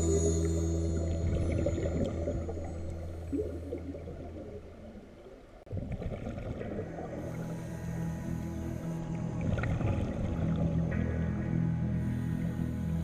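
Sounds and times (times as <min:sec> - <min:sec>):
background music: 0:00.0 - 0:04.2, 0:06.6 - 0:13.0
muffled underwater gurgling: 0:00.0 - 0:13.0.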